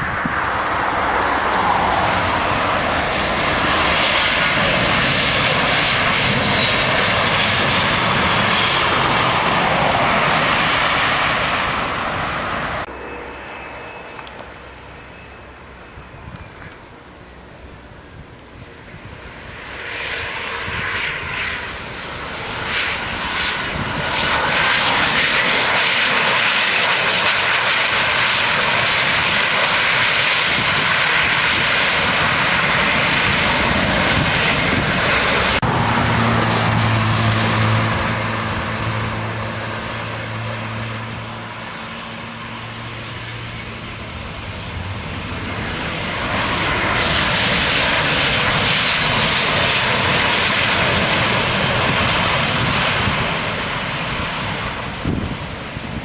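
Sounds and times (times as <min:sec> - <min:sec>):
aircraft low hum: 0:00.0 - 0:56.0
airliner engine noise: 0:00.0 - 0:56.0.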